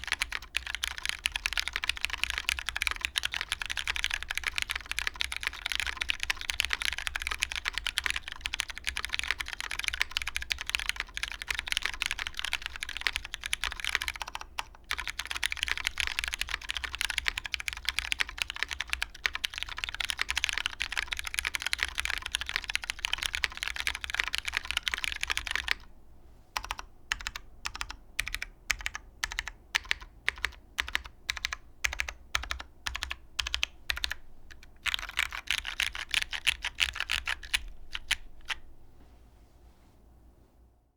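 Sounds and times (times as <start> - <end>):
typing on mechanical keyboard: 0.0 - 25.9, 26.6 - 38.6.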